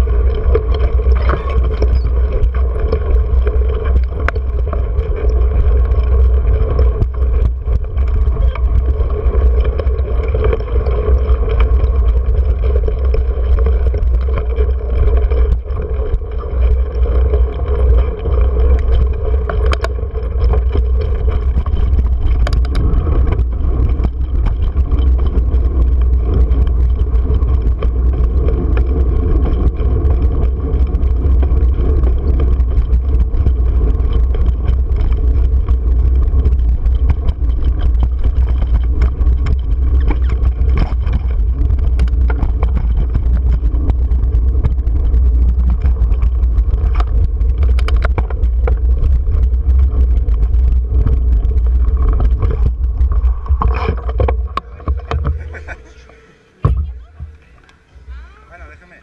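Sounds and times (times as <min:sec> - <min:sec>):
wind rumble on microphone: 0:00.0 - 0:58.8
bike rattling: 0:00.0 - 0:59.0
bike tyre noise on dirt: 0:00.0 - 0:59.0.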